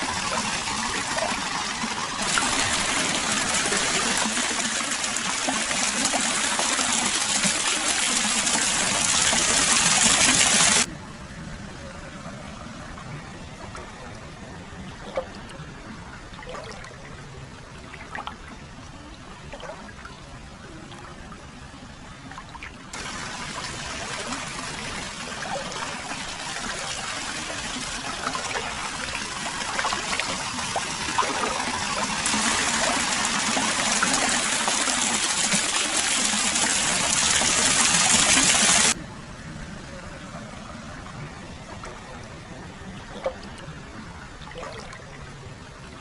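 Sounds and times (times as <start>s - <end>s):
water flowing and splashing: 0.0s - 46.0s.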